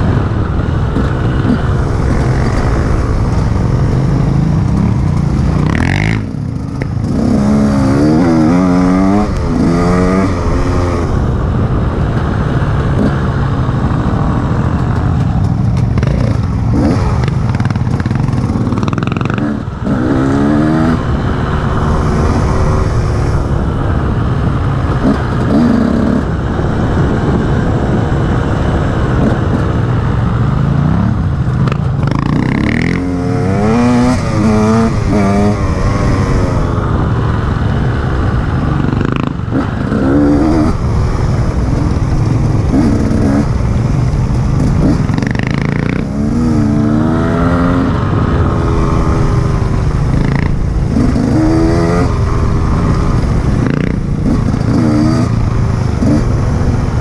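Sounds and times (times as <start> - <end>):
dirt bike engine accelerating: 0.0 - 57.0
steady low rumble: 0.0 - 57.0.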